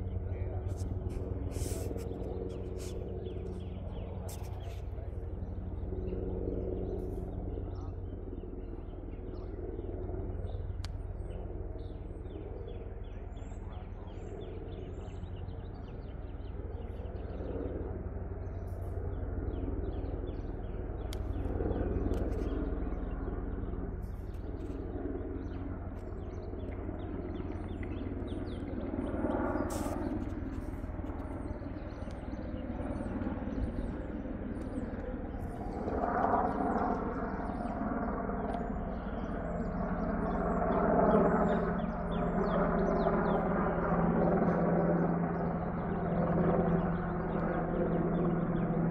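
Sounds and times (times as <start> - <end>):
helicopter rotor rumble: 0.0 - 48.9
small birds chirping: 0.0 - 48.9.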